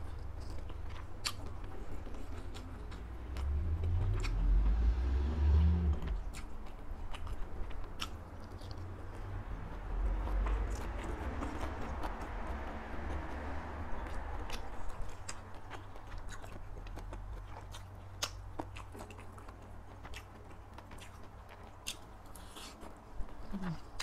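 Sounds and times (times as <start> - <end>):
crunchy chewing: 0.0 - 4.9, 6.0 - 24.0
steady low hum: 0.0 - 24.0.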